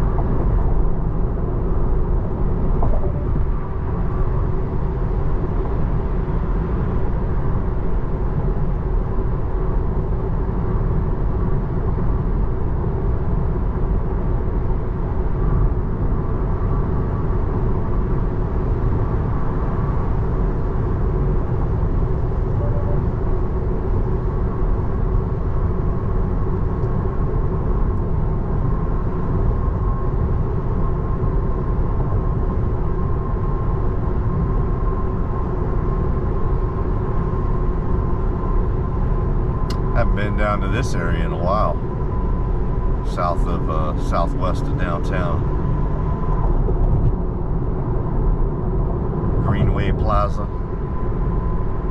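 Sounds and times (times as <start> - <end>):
faint steady hum: 0.0 - 51.9
road and tyre noise in car: 0.0 - 51.9.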